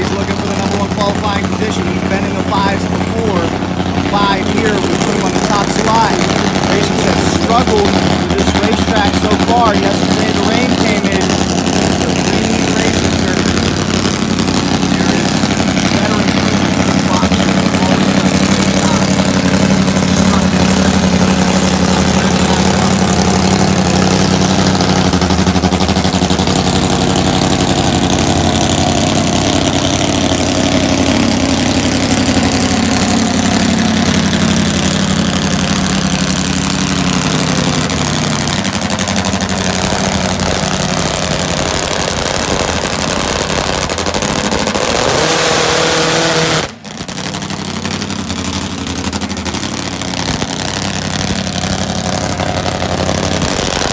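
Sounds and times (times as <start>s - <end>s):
drag motorcycle engine running: 0.0s - 53.9s.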